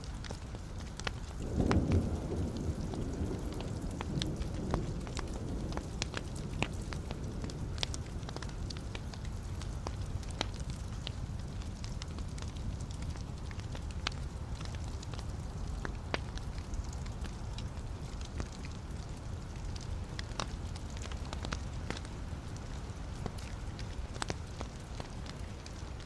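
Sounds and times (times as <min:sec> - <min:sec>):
wood fire burning in a fireplace: 0:00.0 - 0:26.0.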